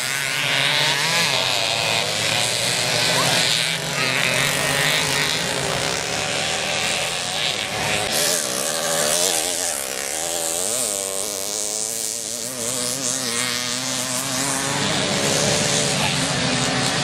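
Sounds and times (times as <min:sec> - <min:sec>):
engine revving up and down: 0:00.0 - 0:17.0
moped engines racing: 0:00.0 - 0:17.0.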